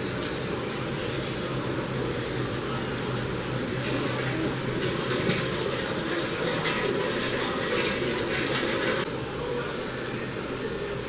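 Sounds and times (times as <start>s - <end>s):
murmur of many people: 0.0s - 11.0s.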